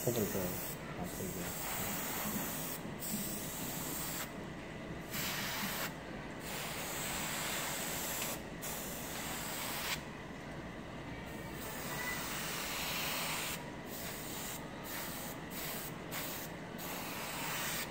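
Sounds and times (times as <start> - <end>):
airbrush spraying hiss: 0.2 - 4.3, 5.1 - 10.0, 11.6 - 17.9.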